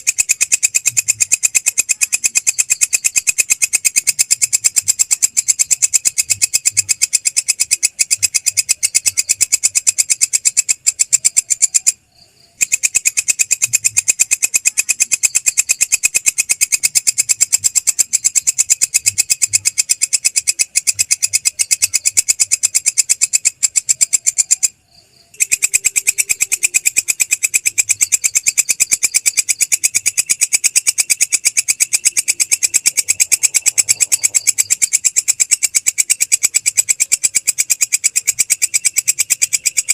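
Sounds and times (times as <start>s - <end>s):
insect calling with rasping pulses: 0.0s - 39.9s.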